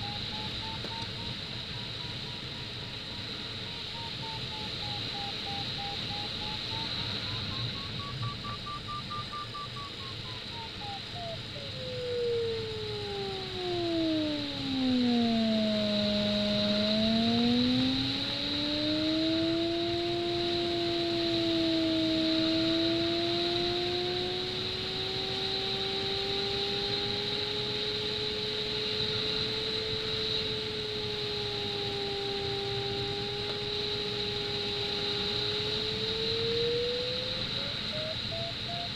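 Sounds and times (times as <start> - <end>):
variometer beeping: 0.0 - 38.9
variometer sliding tone: 0.0 - 38.9.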